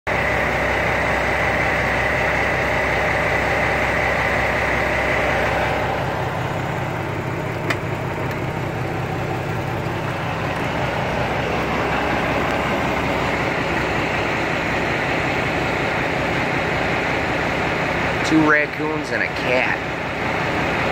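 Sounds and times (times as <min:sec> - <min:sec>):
truck engine idling: 0:00.1 - 0:20.9
high whine: 0:00.2 - 0:20.1.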